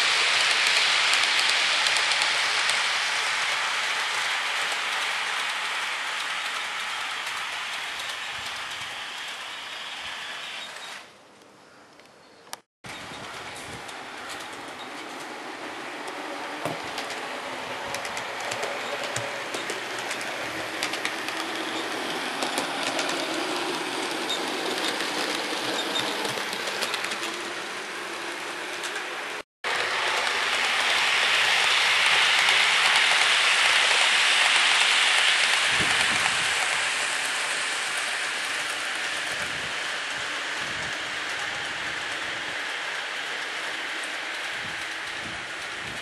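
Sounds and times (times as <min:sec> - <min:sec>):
model train passing: 0:00.0 - 0:11.1, 0:12.9 - 0:46.0
model train wheels and motors whirring: 0:00.0 - 0:11.5, 0:12.5 - 0:46.0.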